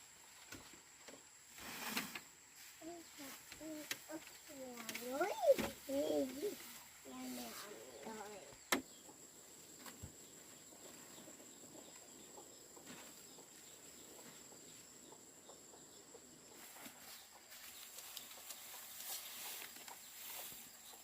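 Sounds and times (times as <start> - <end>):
quiet hiss: 0.0 - 21.0
faint animal sounds: 2.6 - 21.0.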